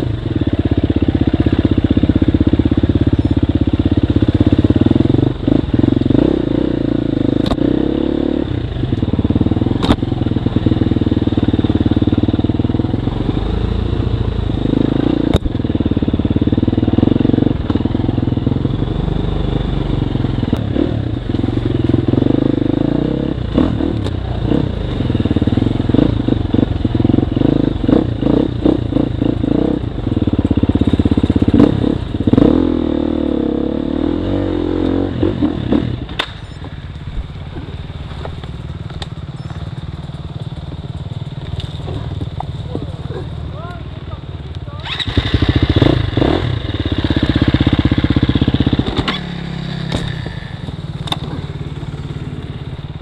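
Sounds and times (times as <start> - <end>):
dirt bike engine revving: 0.0 - 36.6, 44.7 - 53.0.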